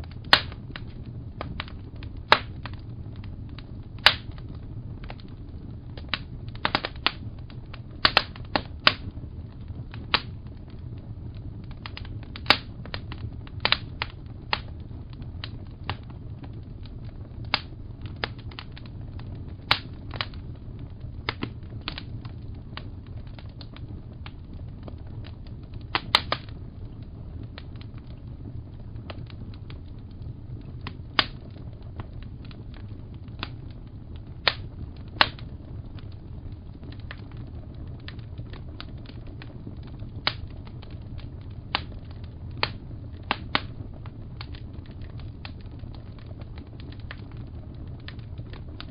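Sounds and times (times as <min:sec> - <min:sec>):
fire crackling and popping: 0:00.0 - 0:48.9
low rumble of burning fire: 0:00.0 - 0:48.9.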